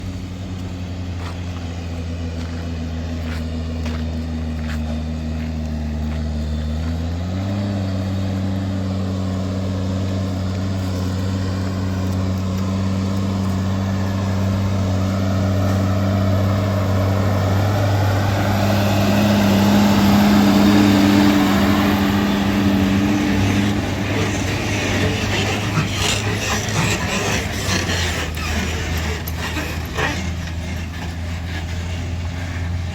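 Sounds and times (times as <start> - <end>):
diesel tractor engine under heavy load: 0.0 - 32.9.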